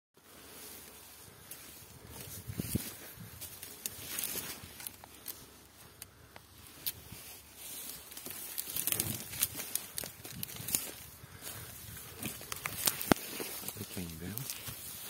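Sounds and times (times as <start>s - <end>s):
footsteps through dry leaves: 0.2s - 5.6s, 7.0s - 15.0s.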